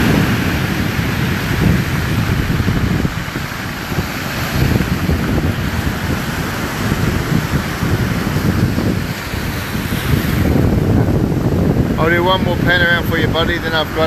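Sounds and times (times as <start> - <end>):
stormy surf breaking: 0.0 - 14.0
wind buffeting microphone: 0.0 - 14.0.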